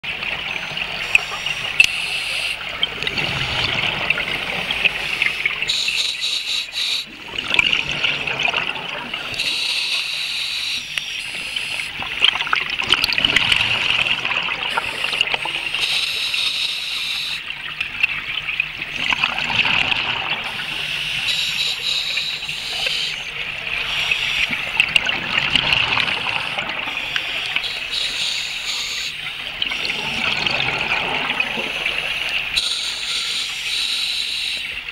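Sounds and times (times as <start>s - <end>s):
exhaled bubbles underwater: 0.0s - 5.9s, 7.0s - 33.5s
crackling hiss: 0.2s - 7.3s, 9.2s - 18.1s, 20.0s - 34.9s.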